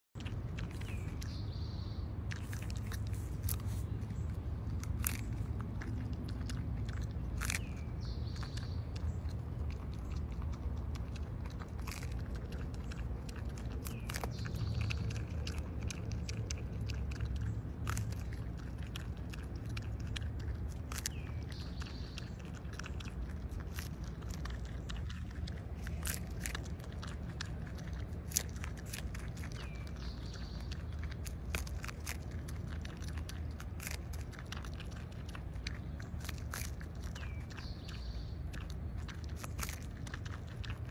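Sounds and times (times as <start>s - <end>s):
groundhog crunching corn: 0.2s - 40.9s.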